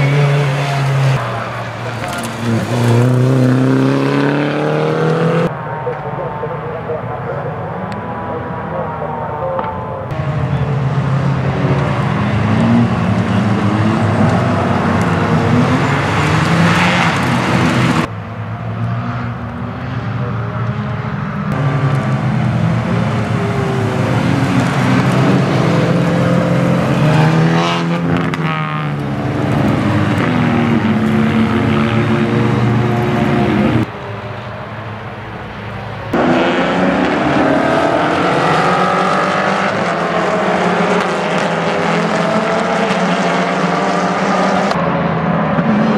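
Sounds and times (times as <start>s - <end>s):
racing car engines revving: 0.0s - 45.9s.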